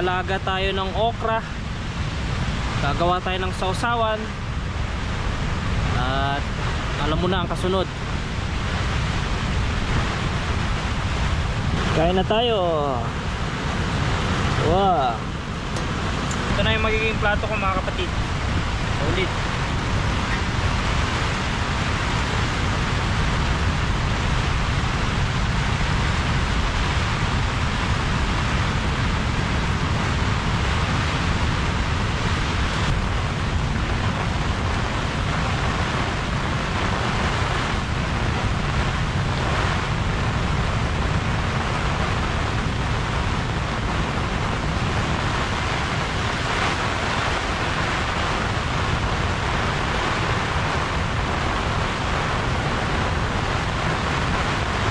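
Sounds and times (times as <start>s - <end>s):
rain hissing: 0.0s - 54.9s
wind gusts buffeting microphone: 0.0s - 54.9s.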